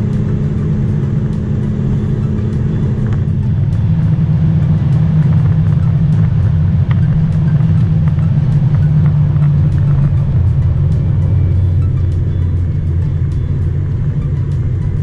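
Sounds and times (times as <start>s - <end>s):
car engine droning: 0.0s - 15.0s
road and wind noise: 0.0s - 15.0s.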